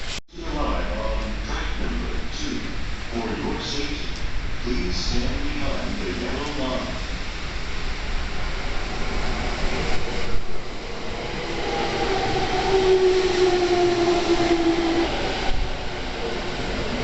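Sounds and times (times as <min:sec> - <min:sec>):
heavy rain: 0:00.0 - 0:17.0
wind: 0:00.0 - 0:17.0.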